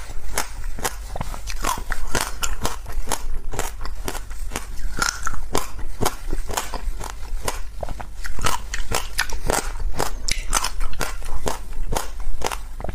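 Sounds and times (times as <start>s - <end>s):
ice being chewed: 0.0s - 12.9s.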